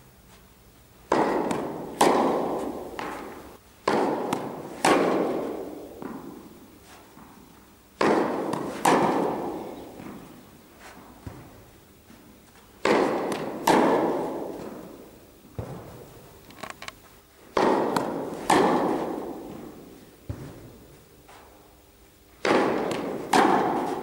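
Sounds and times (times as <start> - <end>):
tennis balls struck by rackets: 1.0 - 24.0.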